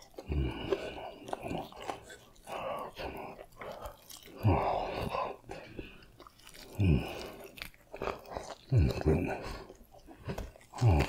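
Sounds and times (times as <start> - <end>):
person chewing fried chicken: 0.0 - 11.0.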